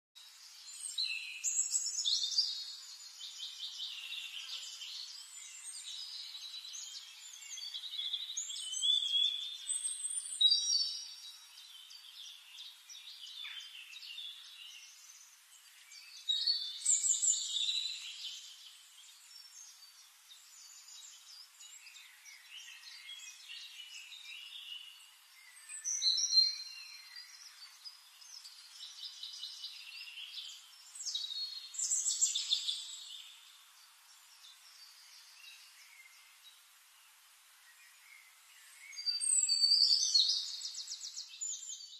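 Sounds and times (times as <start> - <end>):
birds chirping and trilling: 0.2 - 41.9.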